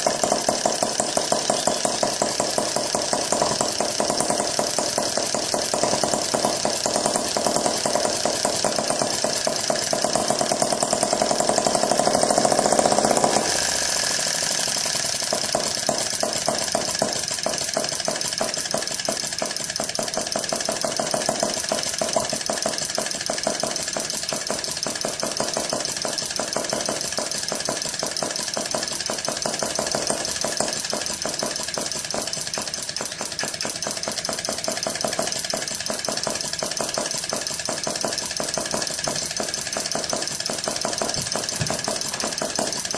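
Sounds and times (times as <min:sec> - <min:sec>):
gas engine running: 0:00.0 - 0:42.9.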